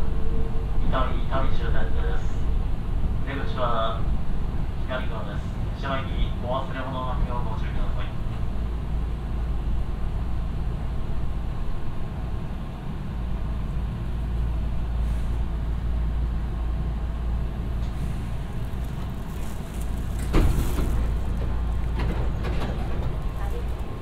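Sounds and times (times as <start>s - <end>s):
train equipment humming: 0.0s - 24.0s.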